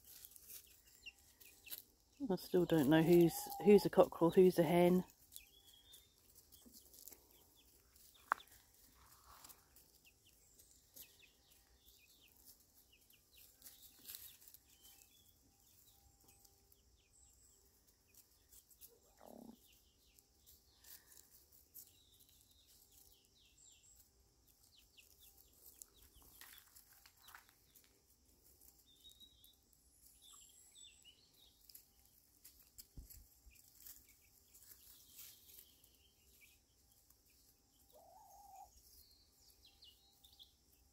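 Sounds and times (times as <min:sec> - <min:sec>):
young chickens clucking softly: 0:00.0 - 0:40.9.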